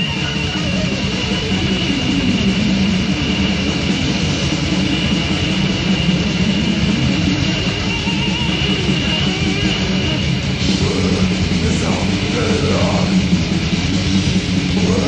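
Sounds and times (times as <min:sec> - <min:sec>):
death metal music: 0:00.0 - 0:15.0
steady high whine: 0:00.0 - 0:15.0.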